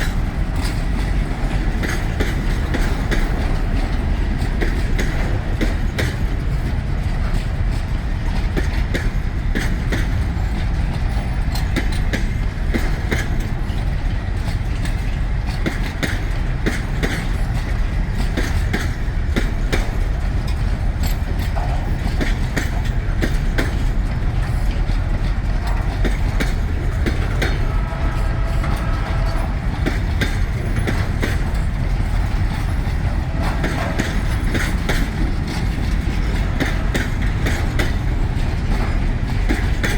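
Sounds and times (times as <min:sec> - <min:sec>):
freight train rumbling past: 0:00.0 - 0:39.9
train wheel squeal: 0:00.0 - 0:39.9
wheels clicking over rail joints: 0:00.0 - 0:39.9.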